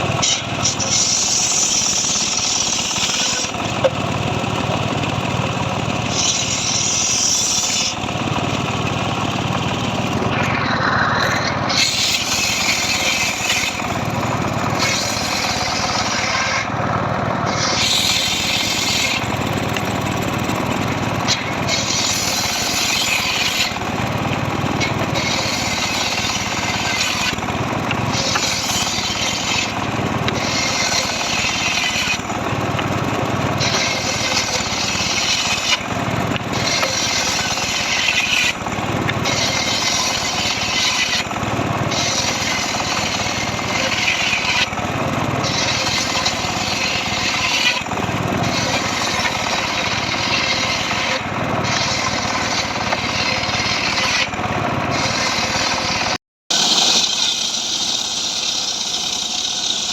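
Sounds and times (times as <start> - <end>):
power saw cutting wood: 0.0 - 59.9.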